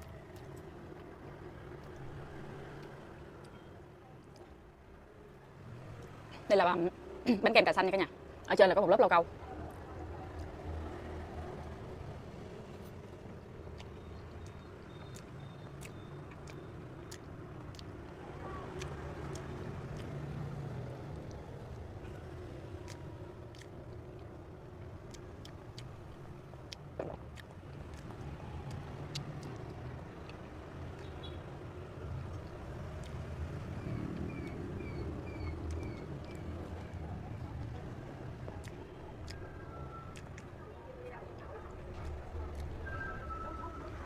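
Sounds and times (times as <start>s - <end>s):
chewing clicks and smacks: 0.0s - 3.6s, 9.6s - 40.6s, 41.3s - 42.8s.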